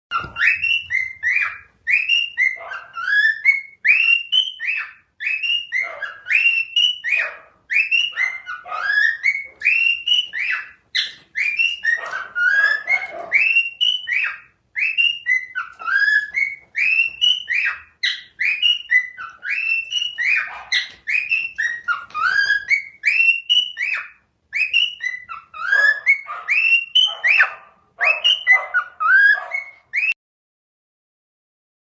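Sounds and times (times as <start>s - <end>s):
bird whistle-like chirps: 0.1s - 30.2s.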